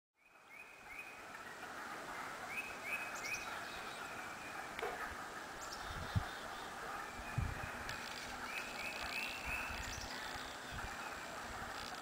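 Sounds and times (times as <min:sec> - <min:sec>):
chorus of frogs calling: 0:00.4 - 0:12.0.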